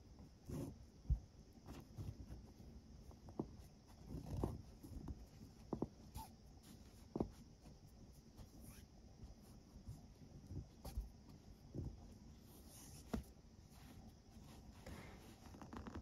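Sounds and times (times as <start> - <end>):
cord rustling and scraping: 1.6 - 16.0.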